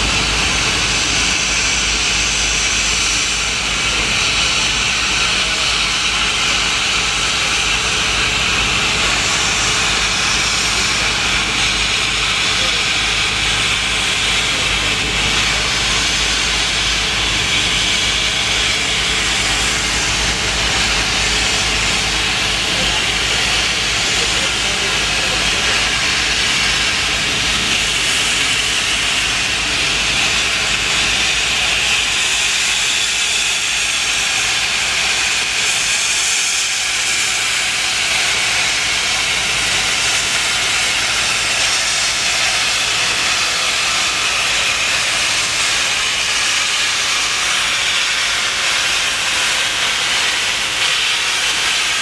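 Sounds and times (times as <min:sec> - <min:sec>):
steam locomotive hissing: 0:00.0 - 0:52.0.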